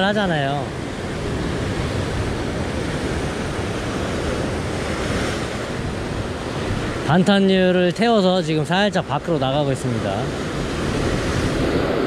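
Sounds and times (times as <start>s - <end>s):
wind buffeting microphone: 0.0s - 7.5s, 9.8s - 12.0s.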